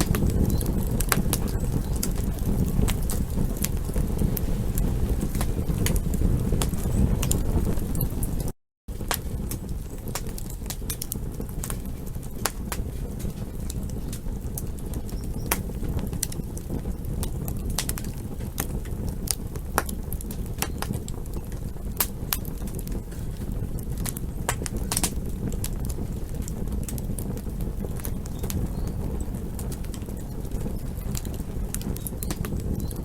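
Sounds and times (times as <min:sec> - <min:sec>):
campfire crackling and popping: 0:00.0 - 0:33.0
low fire rumble: 0:00.0 - 0:33.0.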